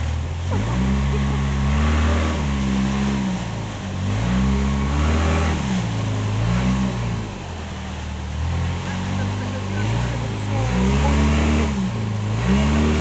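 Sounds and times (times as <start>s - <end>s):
motorboat engine revving: 0.0s - 13.0s
water and wind hiss: 0.0s - 13.0s.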